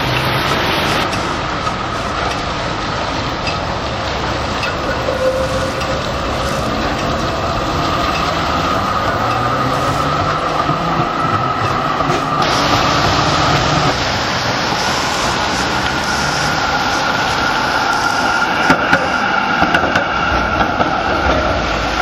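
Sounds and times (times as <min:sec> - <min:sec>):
high tone of wheels on curve: 0:00.0 - 0:22.0
tram rolling on track: 0:00.0 - 0:22.0.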